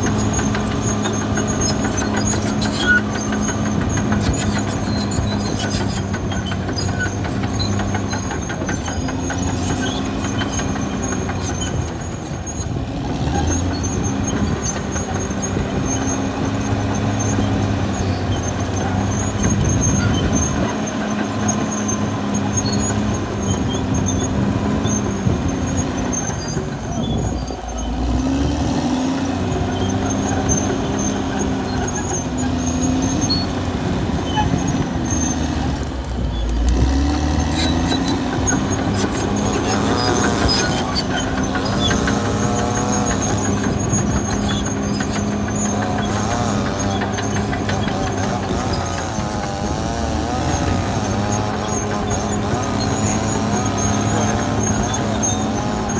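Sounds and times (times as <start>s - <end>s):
bulldozer diesel engine running: 0.0s - 55.9s
clanking and rattling: 0.0s - 55.9s.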